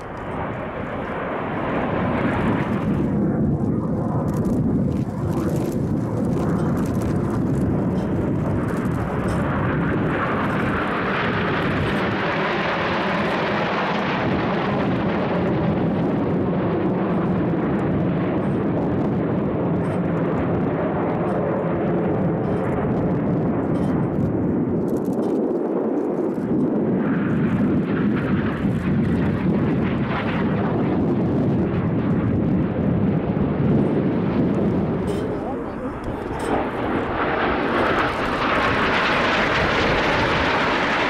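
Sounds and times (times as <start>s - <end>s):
jets flying past: 0.0s - 24.8s, 25.4s - 41.0s.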